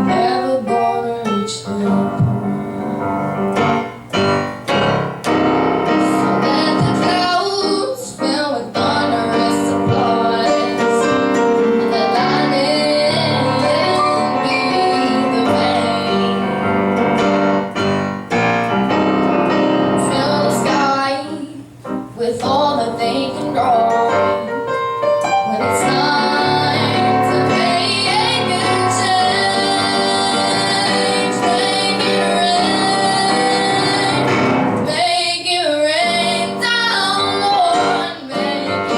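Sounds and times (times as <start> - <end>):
girl singing a ballad: 0.0 - 3.0, 5.8 - 17.2, 19.1 - 38.9
piano accompaniment: 0.0 - 38.9.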